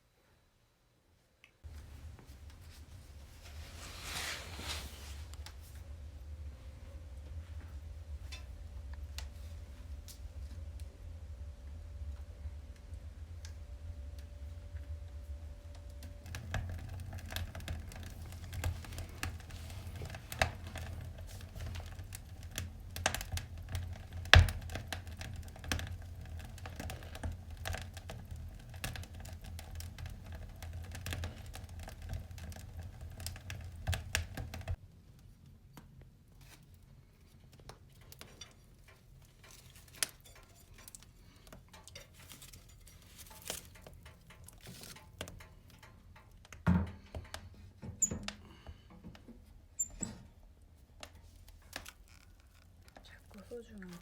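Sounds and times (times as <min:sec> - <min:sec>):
wood fire crackling: 0:01.6 - 0:54.0.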